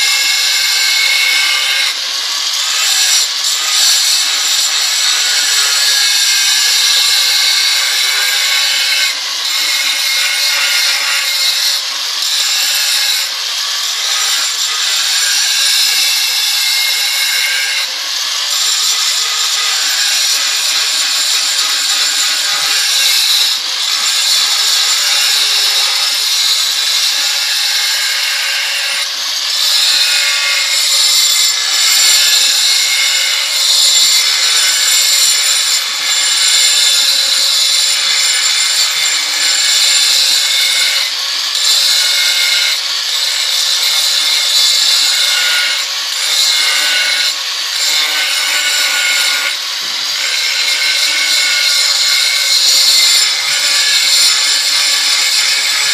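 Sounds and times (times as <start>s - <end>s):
angle grinder grinding stone: 0.0s - 55.9s.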